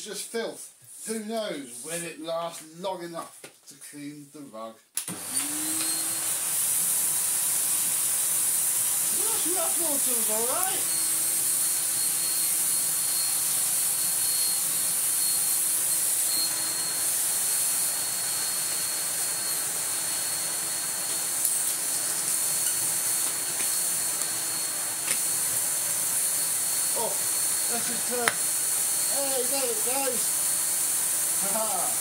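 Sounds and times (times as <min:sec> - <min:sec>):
vacuum cleaner running: 0:05.1 - 0:32.0.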